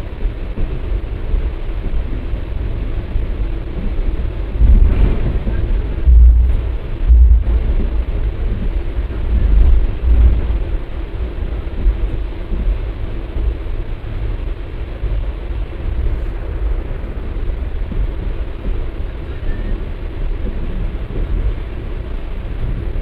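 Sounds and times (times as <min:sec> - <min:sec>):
train carriages rumbling: 0:00.0 - 0:23.0
wind buffeting microphone: 0:00.0 - 0:23.0.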